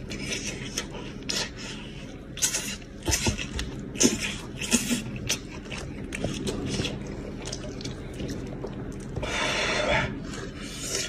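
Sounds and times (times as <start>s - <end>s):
man chewing wetly: 0.0s - 11.0s.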